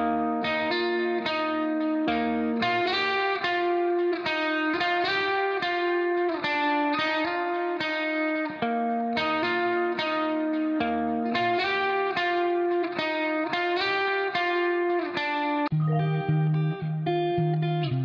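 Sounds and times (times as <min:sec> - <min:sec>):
instrumental guitar music: 0:00.0 - 0:18.0.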